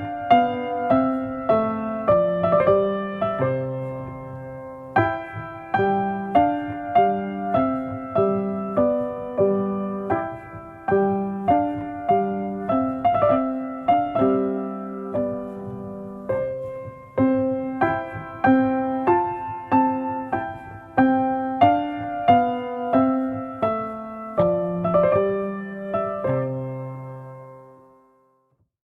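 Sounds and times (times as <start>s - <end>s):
gentle solo piano: 0.0s - 28.6s.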